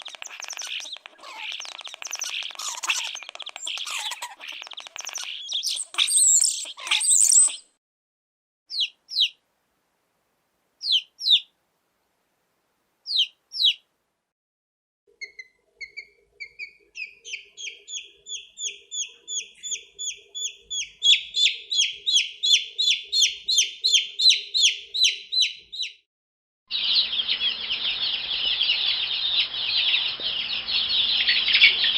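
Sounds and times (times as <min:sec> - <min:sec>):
baby chicks peeping: 0:00.0 - 0:07.7, 0:08.7 - 0:09.4, 0:10.8 - 0:11.5, 0:13.1 - 0:13.8, 0:15.2 - 0:26.0, 0:26.7 - 0:31.9.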